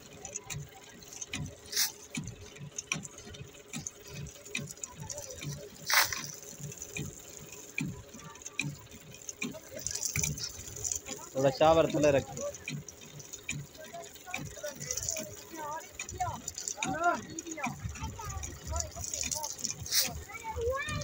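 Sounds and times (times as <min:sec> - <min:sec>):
hot bitumen spraying and spattering: 0:01.0 - 0:02.4, 0:03.7 - 0:08.0, 0:09.2 - 0:21.0.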